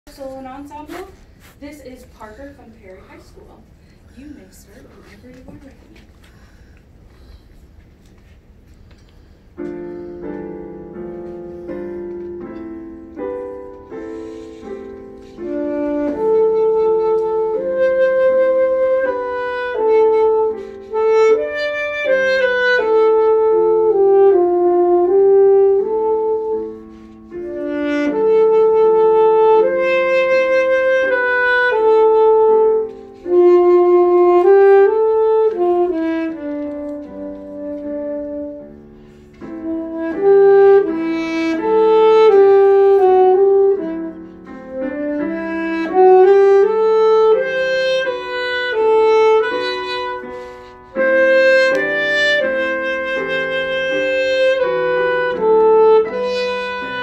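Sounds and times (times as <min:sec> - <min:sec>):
piano accompaniment: 0:09.2 - 0:57.0
alto saxophone slow melody: 0:09.6 - 0:57.0.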